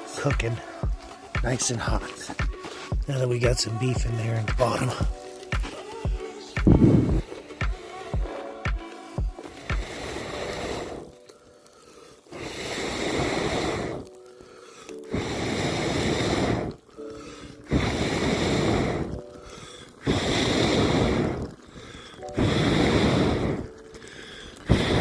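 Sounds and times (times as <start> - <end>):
person blowing on coals: 0.0 - 3.0, 3.8 - 25.0.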